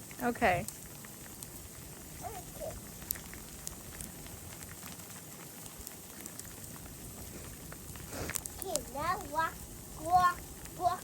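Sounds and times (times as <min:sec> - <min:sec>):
falling snow pattering: 0:00.0 - 0:11.0.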